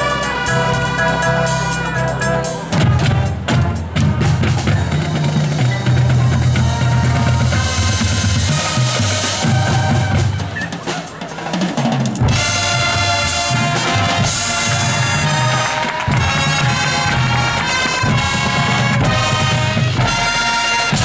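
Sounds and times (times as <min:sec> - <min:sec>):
sustained low brass: 0:00.0 - 0:11.0, 0:12.2 - 0:21.0
snare and bass drums: 0:00.0 - 0:21.0.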